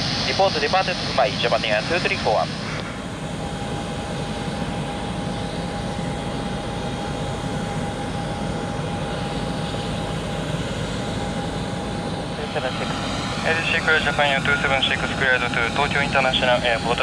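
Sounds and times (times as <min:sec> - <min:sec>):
jet aircraft whine: 0:00.0 - 0:17.0.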